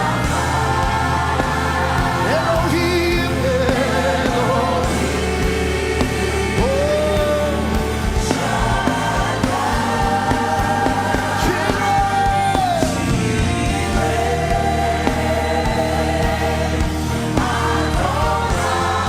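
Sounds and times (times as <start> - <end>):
band with bass and drums: 0.0 - 19.0.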